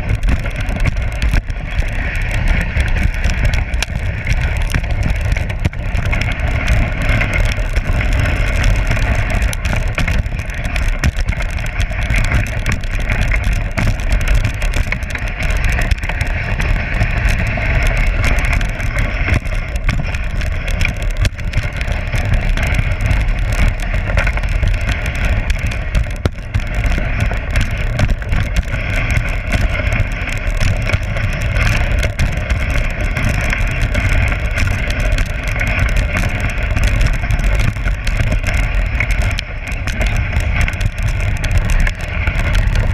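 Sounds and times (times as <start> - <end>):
low rumble of sled vibration: 0.0 - 42.9
sled runners scraping on snow: 0.0 - 42.9.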